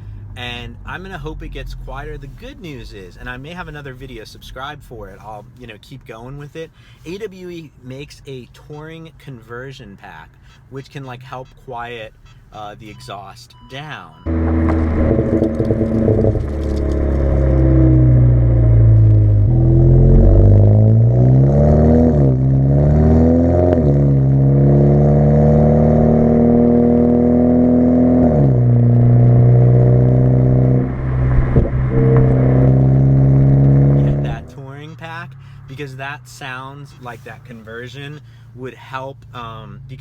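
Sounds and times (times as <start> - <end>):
car engine through exhaust: 0.0 - 5.7, 11.5 - 40.0.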